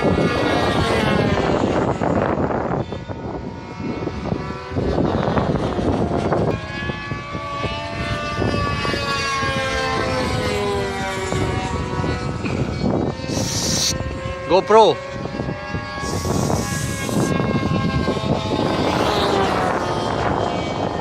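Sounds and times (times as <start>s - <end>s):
model airplane engine buzzing: 0.0s - 21.0s.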